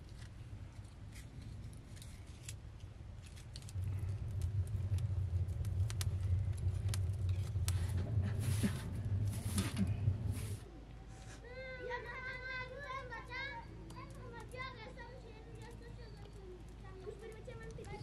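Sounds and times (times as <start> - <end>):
fire crackles and pops: 0.0 - 10.7, 11.4 - 18.0
fire roaring in oven: 0.0 - 18.0.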